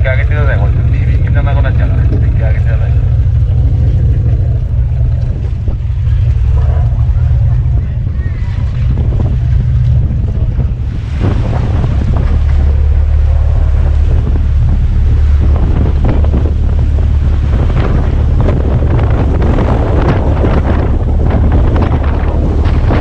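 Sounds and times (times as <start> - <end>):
boat engine and hull rumble: 0.0 - 23.0
wind buffeting microphone: 0.0 - 23.0.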